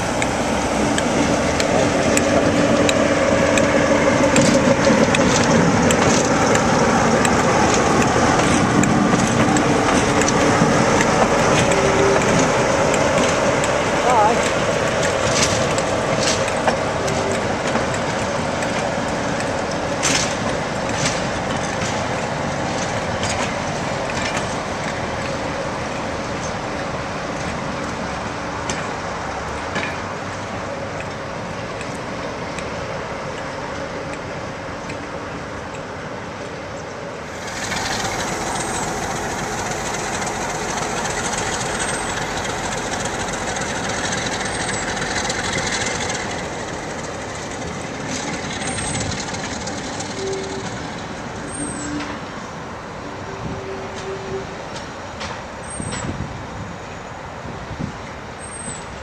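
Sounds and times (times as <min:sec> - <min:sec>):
diesel locomotive running: 0:00.0 - 0:59.0
wheel clicks over rail joints: 0:00.1 - 0:35.1, 0:37.3 - 0:52.3.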